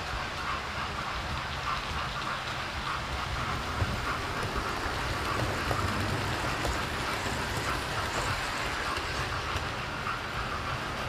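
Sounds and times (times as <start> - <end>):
model trains running on track: 0.0 - 11.0.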